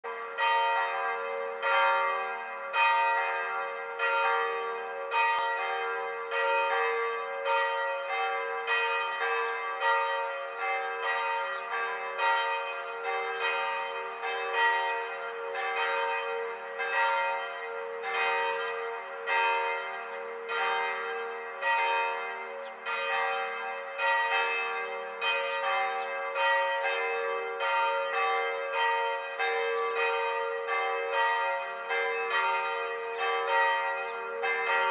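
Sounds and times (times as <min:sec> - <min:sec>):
church bells ringing: 0:00.0 - 0:34.9.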